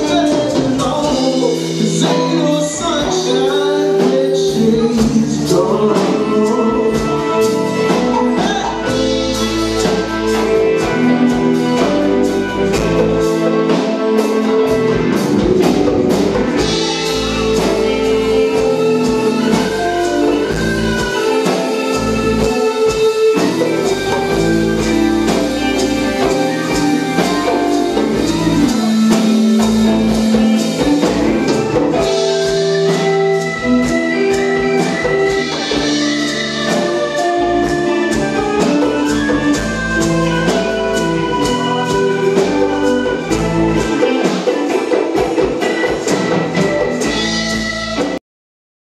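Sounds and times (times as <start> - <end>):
electric bass: 0.0 - 44.3, 45.2 - 48.2
drum kit beat: 0.0 - 48.2
electric guitars: 0.0 - 48.2.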